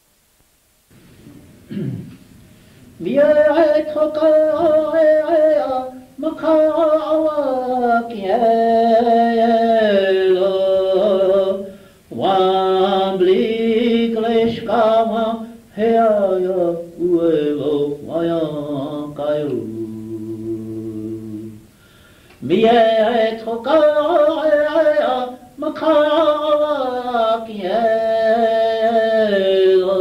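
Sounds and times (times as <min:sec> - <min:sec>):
person singing unaccompanied chant: 0:03.0 - 0:21.7, 0:22.4 - 0:30.0.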